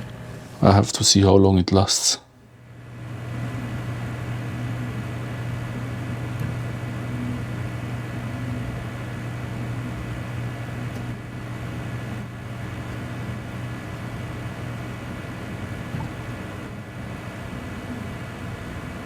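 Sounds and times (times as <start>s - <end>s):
computer fan noise: 2.9s - 19.0s.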